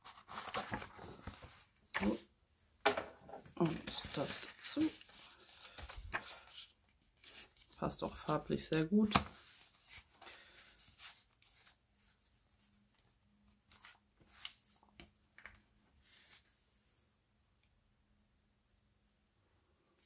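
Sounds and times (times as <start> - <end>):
notebook rustling: 0.0 - 2.3, 3.1 - 17.0.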